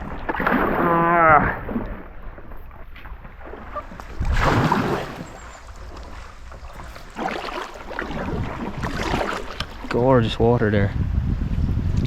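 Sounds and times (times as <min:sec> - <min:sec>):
kayak paddle splashing water: 0:00.0 - 0:10.2.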